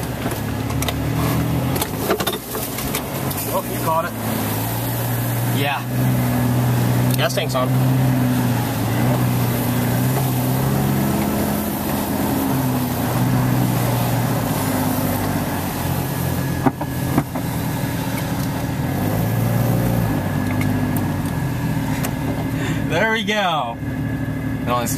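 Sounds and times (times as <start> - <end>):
car engine running at low speed: 0.0 - 24.9.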